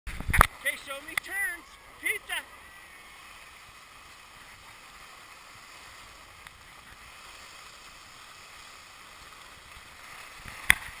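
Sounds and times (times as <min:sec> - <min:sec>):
skis hissing over snow: 0:00.6 - 0:11.0.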